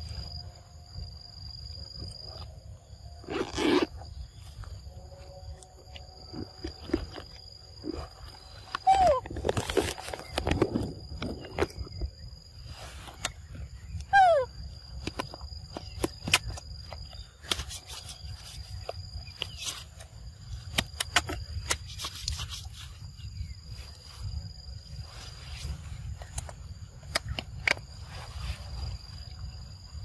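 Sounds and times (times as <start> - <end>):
high insect buzz: 0.0 - 30.0.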